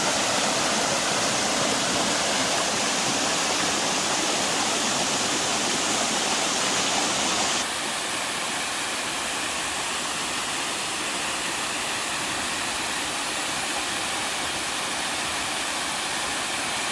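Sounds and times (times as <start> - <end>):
waterfall pouring over rock: 0.0 - 16.9.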